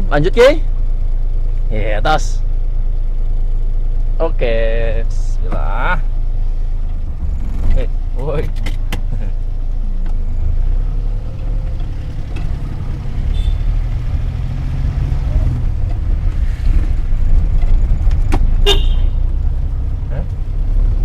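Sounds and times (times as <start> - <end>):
vehicle engine and road drone: 0.0 - 21.0.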